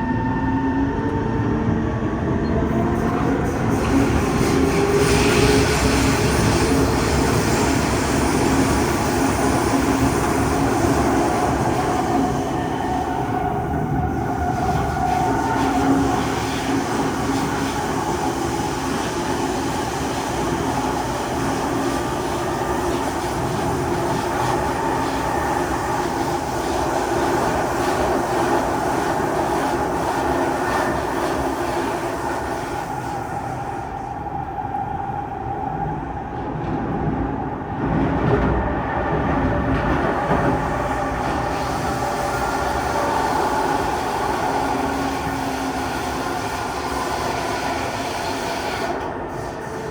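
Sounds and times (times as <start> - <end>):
train wheels rumbling on rail: 0.1 - 49.9.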